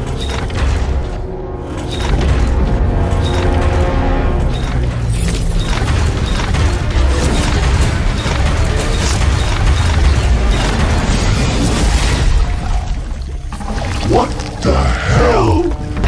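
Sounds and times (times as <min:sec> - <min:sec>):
dramatic soundtrack music: 0:00.0 - 0:16.0.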